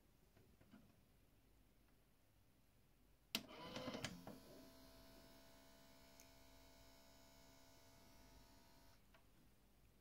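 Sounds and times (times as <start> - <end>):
faint electrical hum: 0.1 - 10.0.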